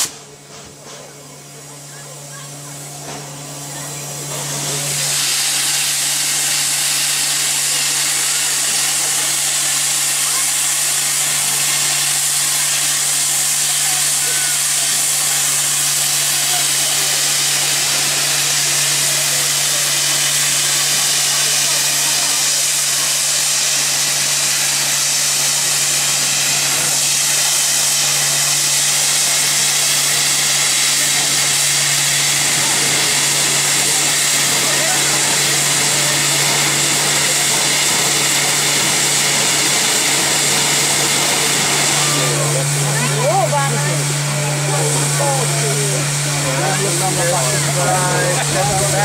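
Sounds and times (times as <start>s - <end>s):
steam hissing from safety valve: 0.0s - 0.8s, 2.7s - 49.0s.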